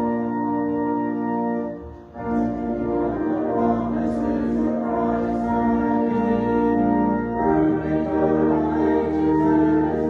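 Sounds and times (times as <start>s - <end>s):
church organ chords: 0.0s - 10.0s.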